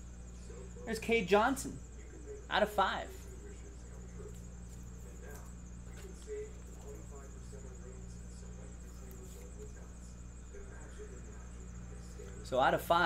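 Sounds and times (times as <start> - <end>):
faint high-pitched whine: 0.0 - 13.0
low electrical hum: 0.0 - 13.0.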